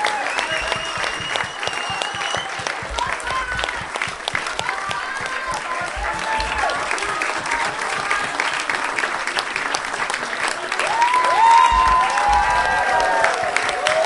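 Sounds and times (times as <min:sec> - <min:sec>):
audience applauding: 0:00.0 - 0:14.0
voices calling out: 0:00.0 - 0:14.0.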